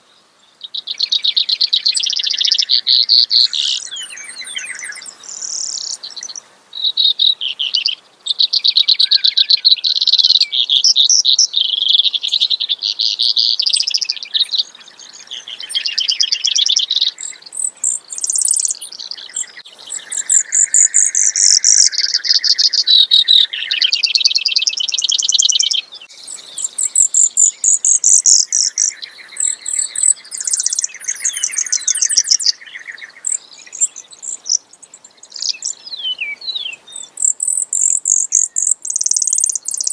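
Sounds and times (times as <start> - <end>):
sparrow singing trills: 0.0 - 39.9.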